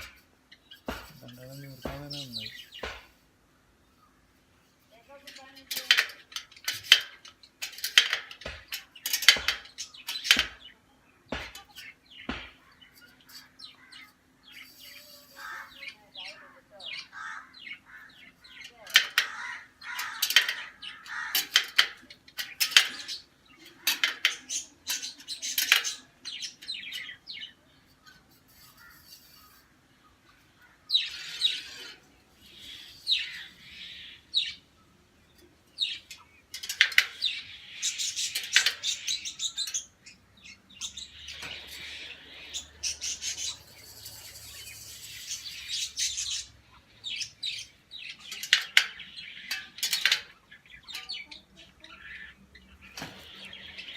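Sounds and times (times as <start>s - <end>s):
birds chirping and chattering: 0.0s - 53.9s.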